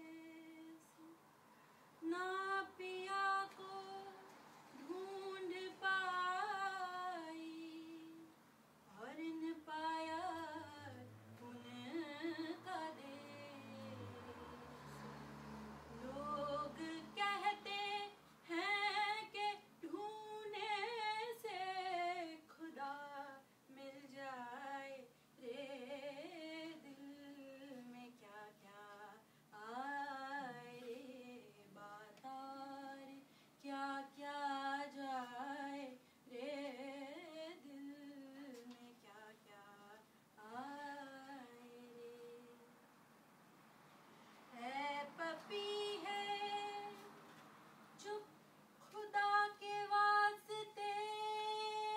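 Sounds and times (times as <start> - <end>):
woman singing unaccompanied: 0.0 - 1.2, 2.0 - 42.8, 44.5 - 47.2, 48.0 - 51.9.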